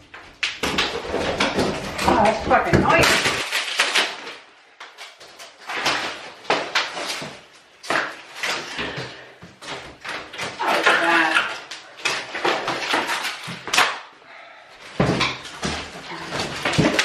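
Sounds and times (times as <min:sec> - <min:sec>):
flooring sheet ripped up cracking: 0:00.4 - 0:14.1, 0:15.0 - 0:17.0.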